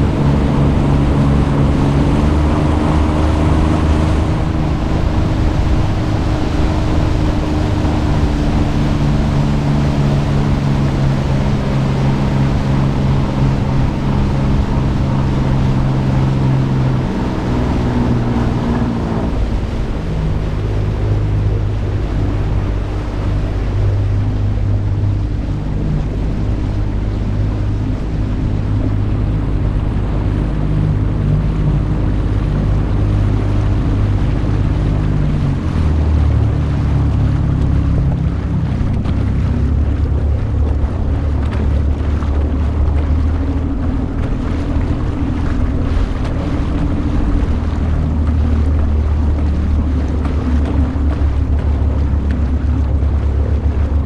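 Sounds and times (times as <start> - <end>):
outboard motor running: 0.0 - 54.0
water rushing past hull: 0.0 - 54.0
wind on microphone: 0.0 - 54.0.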